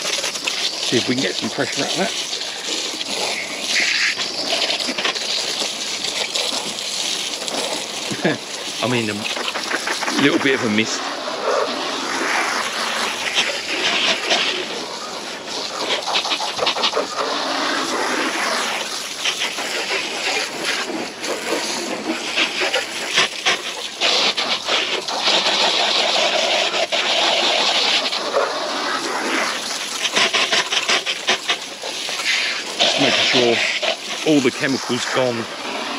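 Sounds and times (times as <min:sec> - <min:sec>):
water spray hissing and spattering: 0:00.0 - 0:35.9.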